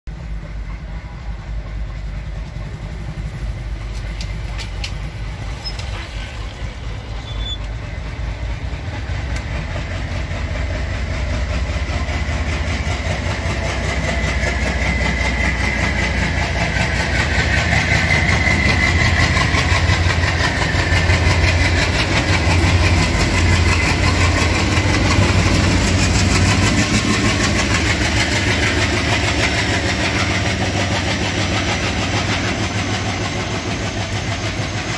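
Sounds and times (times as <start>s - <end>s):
diesel locomotive engine rumble: 0.1s - 34.9s
train wheels rolling on rails: 0.1s - 34.9s.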